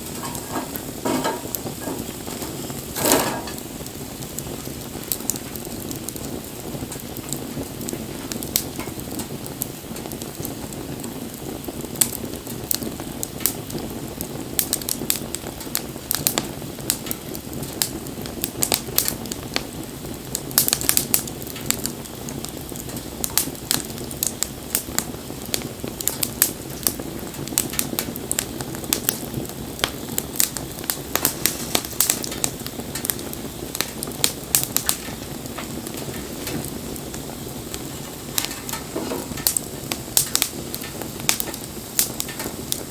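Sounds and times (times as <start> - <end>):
burning wood crackling and popping: 0.0 - 42.9
wood fire rumbling: 0.0 - 42.9.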